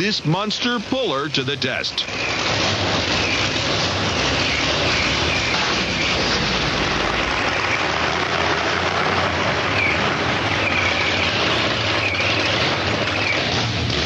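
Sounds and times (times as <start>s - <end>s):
tractor puller engines roaring: 0.0s - 14.0s.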